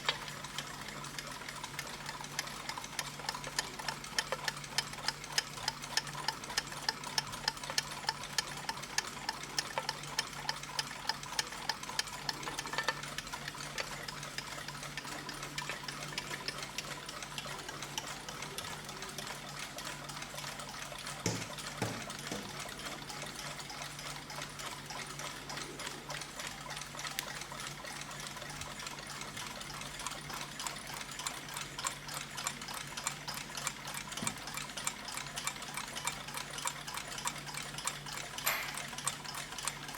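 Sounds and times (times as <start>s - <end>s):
mechanical clocks ticking: 0.0s - 39.9s.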